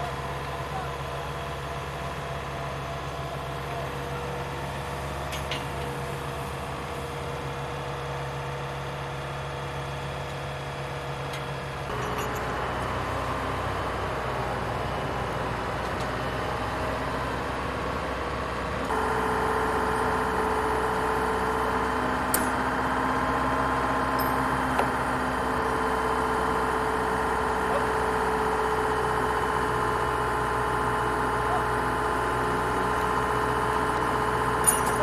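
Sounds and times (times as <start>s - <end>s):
crane engine running: 0.0s - 35.0s.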